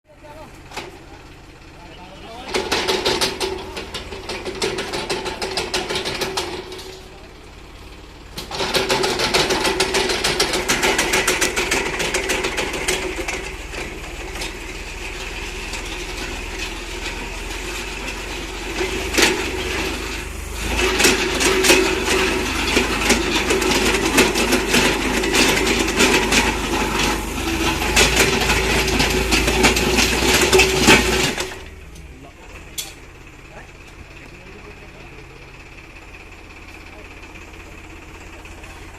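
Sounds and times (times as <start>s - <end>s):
tractor engine clattering under load: 0.1s - 38.9s.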